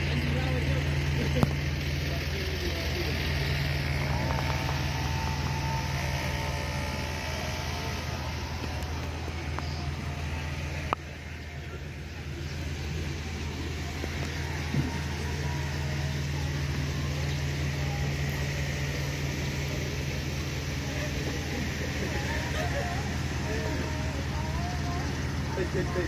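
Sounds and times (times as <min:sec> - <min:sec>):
faint voices: 0:00.0 - 0:26.0
vehicle engine idling: 0:00.0 - 0:26.0.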